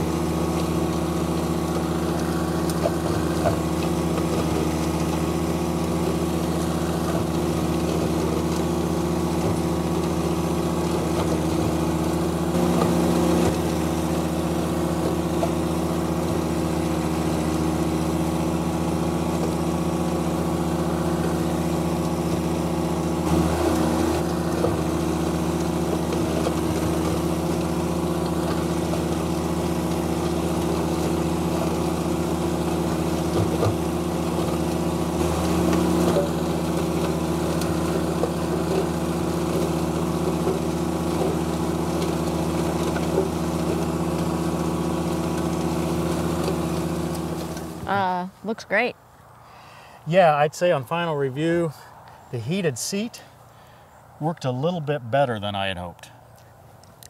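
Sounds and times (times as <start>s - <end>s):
flail mower: 0.0s - 57.0s
tractor diesel engine running: 0.0s - 57.0s.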